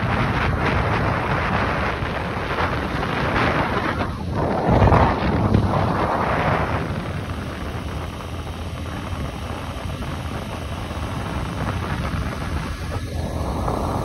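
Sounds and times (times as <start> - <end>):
road noise rumble: 0.0 - 14.0
wind noise hiss: 0.0 - 14.0.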